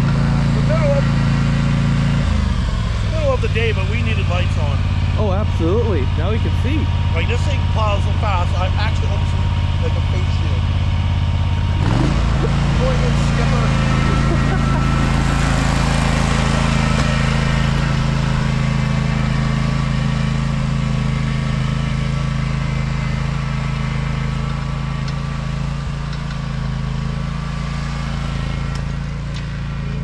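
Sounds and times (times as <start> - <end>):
mower engine running steadily: 0.0 - 30.0.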